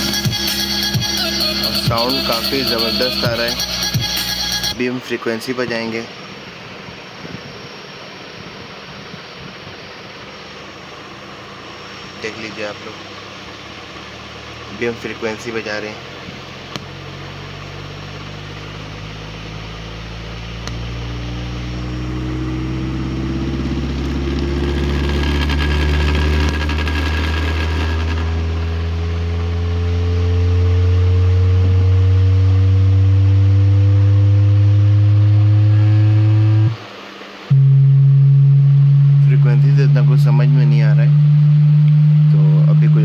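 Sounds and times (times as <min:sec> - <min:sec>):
steady high tone: 0:00.0 - 0:16.1, 0:19.0 - 0:36.9, 0:37.5 - 0:43.0
rising frequency sweep tone: 0:00.0 - 0:43.0.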